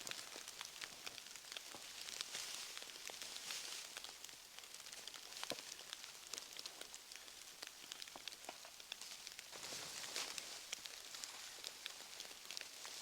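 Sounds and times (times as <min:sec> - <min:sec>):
campfire crackling and popping: 0:00.0 - 0:13.0
soft fire hiss: 0:00.0 - 0:13.0.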